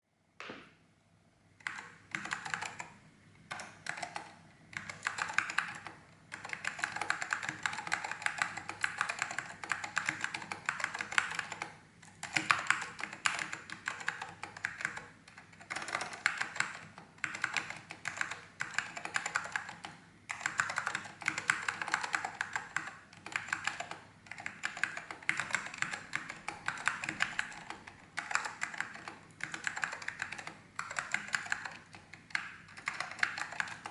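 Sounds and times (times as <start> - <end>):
rapid keyboard typing: 1.6 - 33.9.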